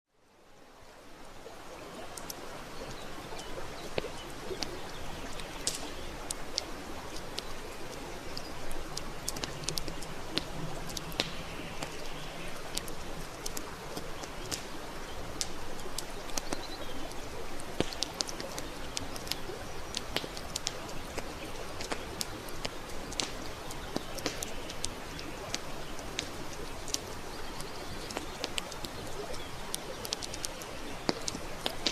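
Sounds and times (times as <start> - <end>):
campfire crackling and popping: 1.4 - 31.9.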